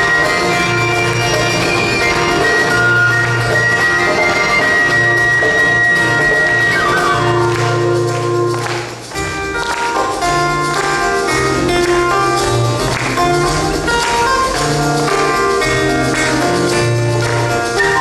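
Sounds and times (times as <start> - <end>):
melody of held notes: 0.0 - 18.0.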